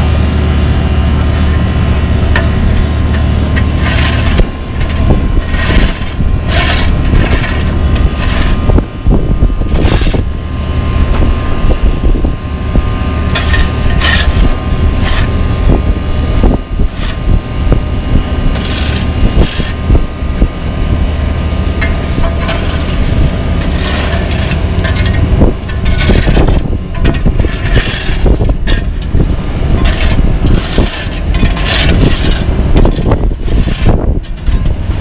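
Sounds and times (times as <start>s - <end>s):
diesel engines humming: 0.0s - 35.0s
shovels and brooms scraping asphalt: 1.1s - 12.4s, 13.1s - 20.4s, 21.2s - 35.0s.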